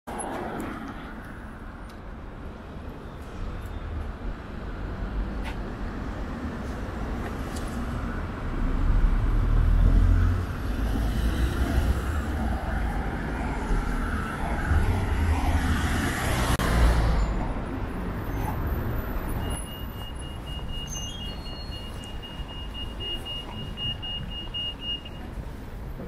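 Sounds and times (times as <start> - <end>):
traffic rumble: 0.1 - 26.0.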